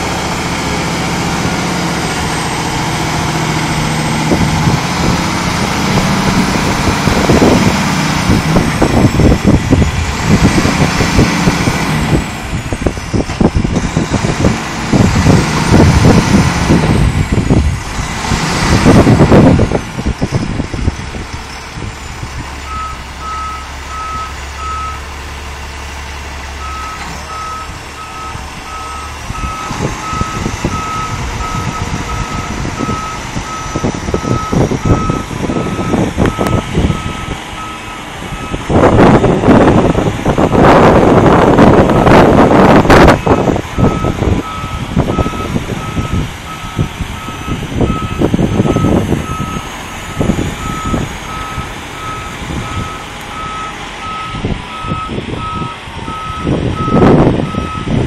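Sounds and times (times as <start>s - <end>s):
diesel truck engine surging: 0.0s - 58.0s.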